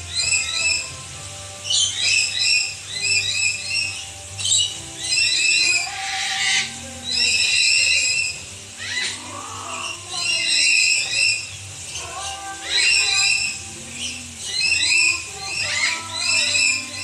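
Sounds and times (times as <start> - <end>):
birds calling: 0.0 - 17.0
harsh bird squawk: 0.0 - 17.0.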